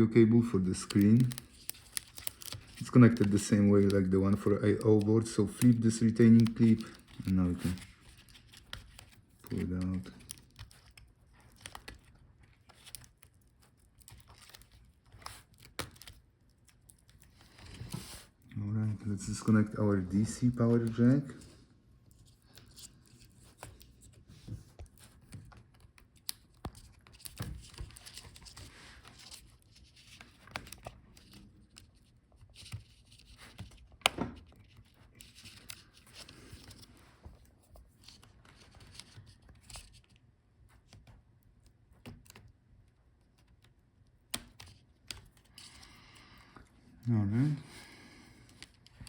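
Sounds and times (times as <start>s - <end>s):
hands clicking and scraping: 0.4s - 18.5s, 22.1s - 40.2s, 43.2s - 46.6s.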